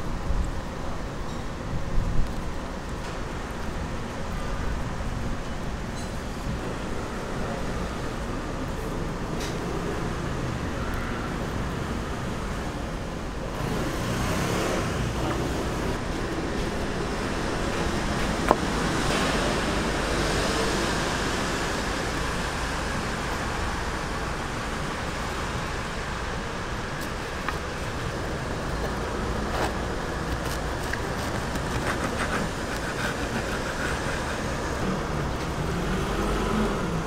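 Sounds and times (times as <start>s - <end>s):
street traffic noise: 0.0s - 37.0s.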